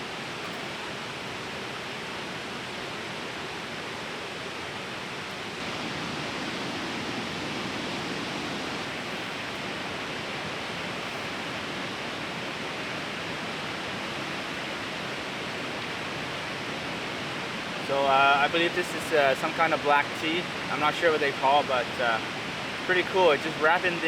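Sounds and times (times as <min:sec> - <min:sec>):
fast-flowing river rushing: 0:00.0 - 0:24.0.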